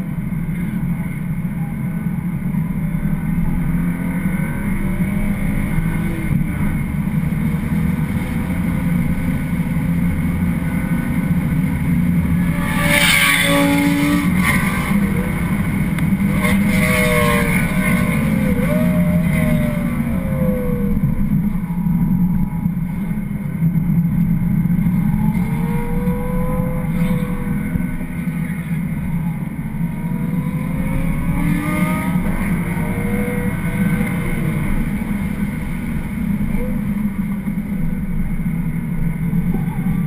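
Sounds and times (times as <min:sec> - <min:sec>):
car engine accelerating: 0:00.0 - 0:40.0
road and tyre rumble: 0:00.0 - 0:40.0.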